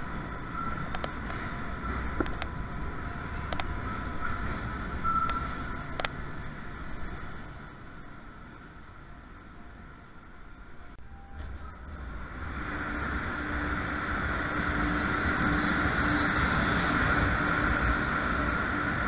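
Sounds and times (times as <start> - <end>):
train motor hum: 0.0 - 19.0
train wheels rumbling on rail: 0.0 - 19.0.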